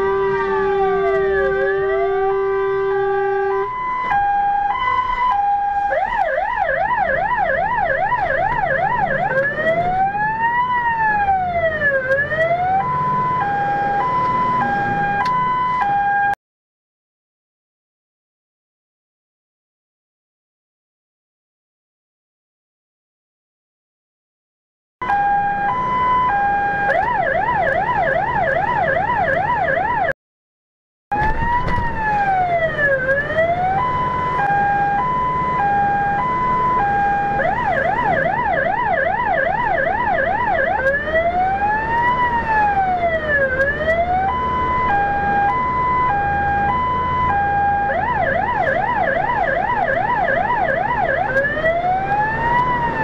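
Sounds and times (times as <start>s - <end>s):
fire engine siren: 0.0s - 16.4s, 25.0s - 30.2s, 31.1s - 53.0s.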